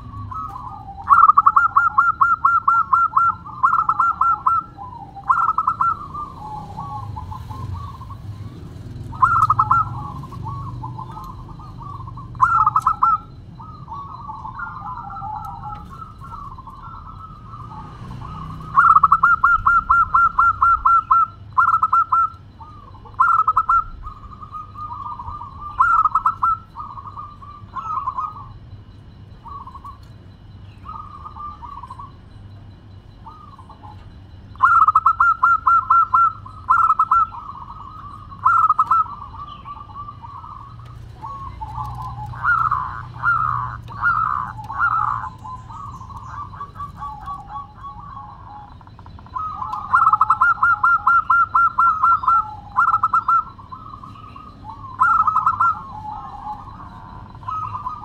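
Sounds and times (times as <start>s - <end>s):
dove cooing song: 0.0s - 58.0s.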